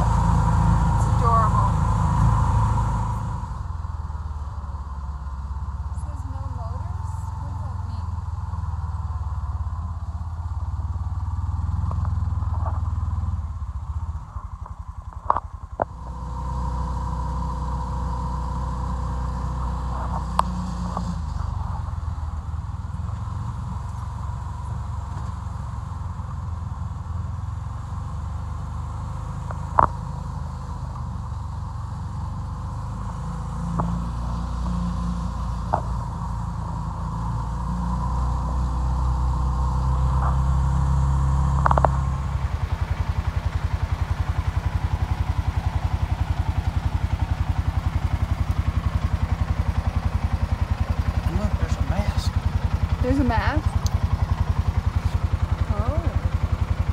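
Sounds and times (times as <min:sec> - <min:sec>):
vehicle engine rumbling: 0:00.0 - 0:56.9.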